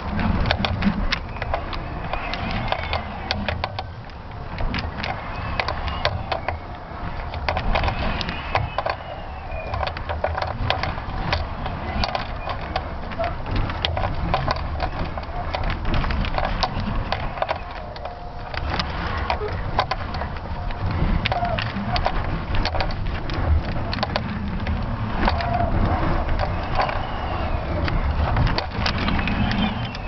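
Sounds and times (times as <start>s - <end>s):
camera payload crackling and creaking: 0.0s - 30.0s
steady low rumble: 0.0s - 30.0s.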